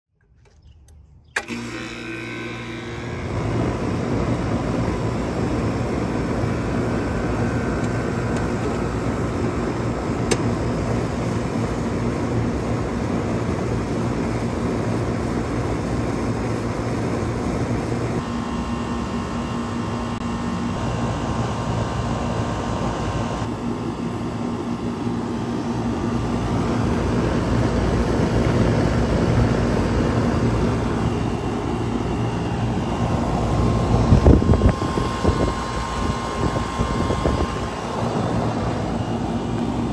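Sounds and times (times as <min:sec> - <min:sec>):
air conditioner compressor hum: 0:01.2 - 0:39.9
condenser fan air noise: 0:01.3 - 0:39.9.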